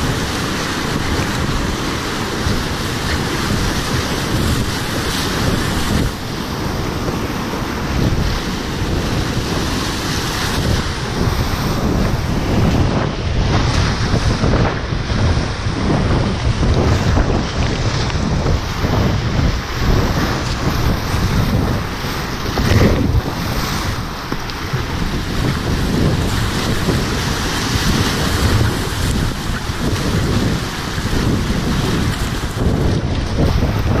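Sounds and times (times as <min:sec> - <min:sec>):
paddle strokes splashing: 0:00.0 - 0:34.0
whitewater rapids rushing: 0:00.0 - 0:34.0
wind buffeting microphone: 0:00.0 - 0:34.0.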